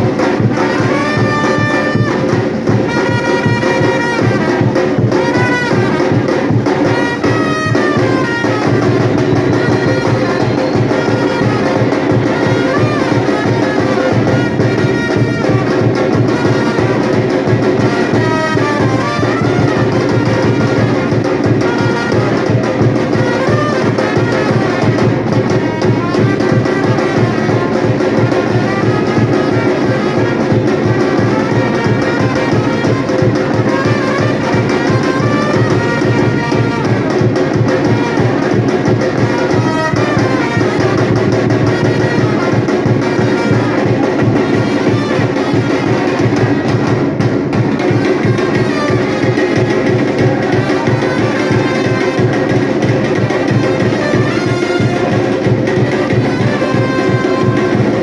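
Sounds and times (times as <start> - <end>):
brass horns playing melody: 0.0 - 58.0
driving drum rhythm: 0.0 - 58.0.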